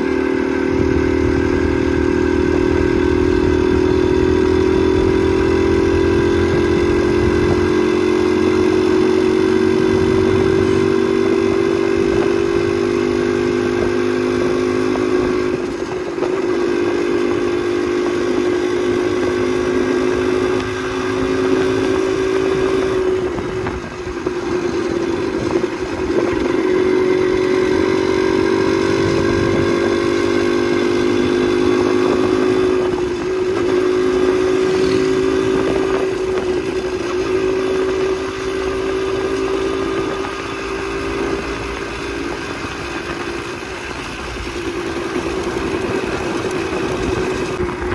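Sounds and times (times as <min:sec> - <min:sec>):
motorcycle engine droning: 0:00.0 - 0:47.9.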